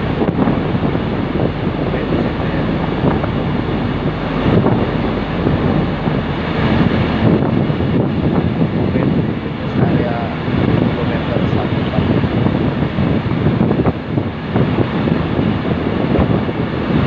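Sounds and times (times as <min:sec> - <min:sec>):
road traffic rumble: 0:00.0 - 0:17.0
wind buffeting microphone: 0:00.0 - 0:17.0.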